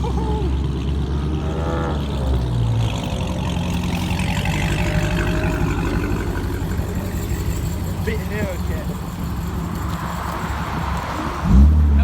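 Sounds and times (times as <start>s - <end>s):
car engine deep rumble: 0.0s - 12.0s.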